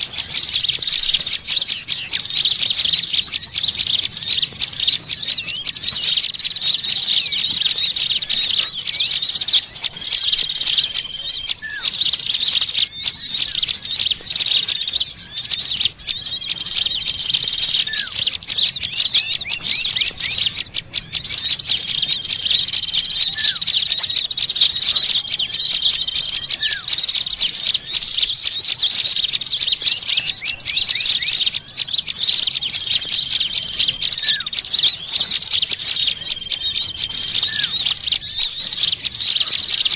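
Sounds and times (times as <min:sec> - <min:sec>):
long thin bird whistles: 0:00.0 - 0:39.9
small songbirds chattering and chirping: 0:00.0 - 0:39.9.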